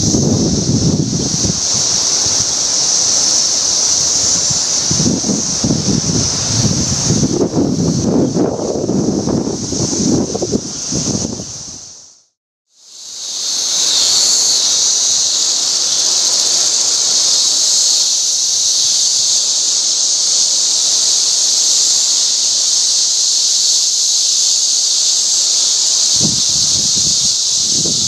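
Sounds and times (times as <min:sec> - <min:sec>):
cicadas singing: 0:00.0 - 0:28.0.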